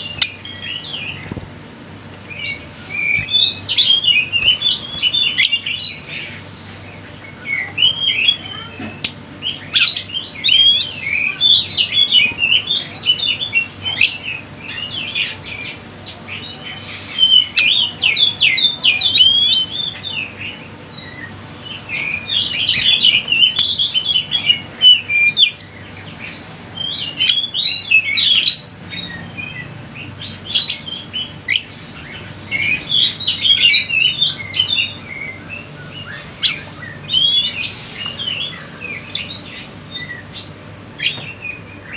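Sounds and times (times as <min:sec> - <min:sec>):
songbird chirping and twittering: 0:00.0 - 0:41.9.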